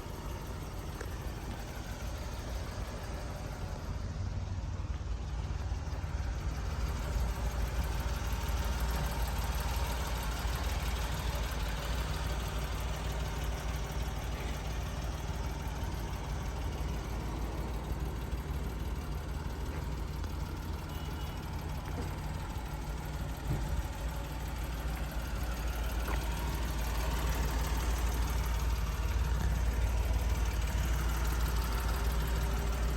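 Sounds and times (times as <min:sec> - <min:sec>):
small truck engine idling: 0:00.0 - 0:32.9.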